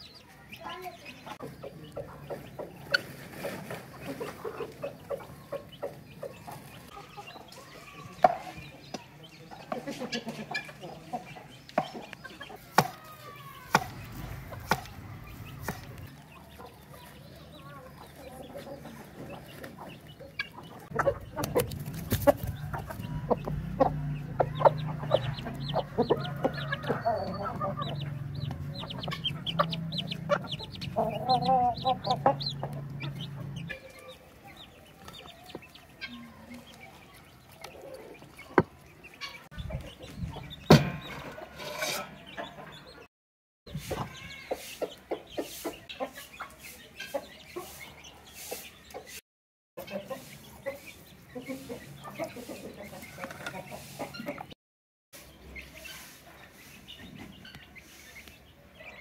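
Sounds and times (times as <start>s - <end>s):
chickens clucking: 0.0s - 43.1s, 43.7s - 49.2s, 49.8s - 54.6s, 55.2s - 59.0s.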